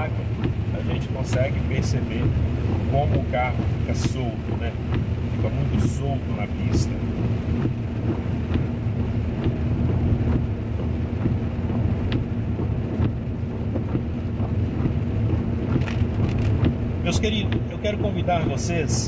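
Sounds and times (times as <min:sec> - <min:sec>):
heavy rain: 0:00.0 - 0:19.0
low road rumble: 0:00.0 - 0:19.0.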